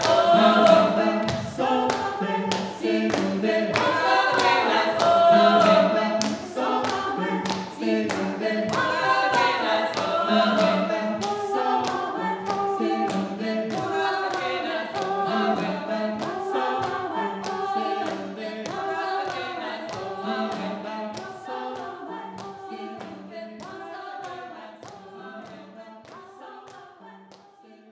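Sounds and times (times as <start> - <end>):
handclaps: 0.0 - 27.6
group singing a cappella: 0.0 - 27.9.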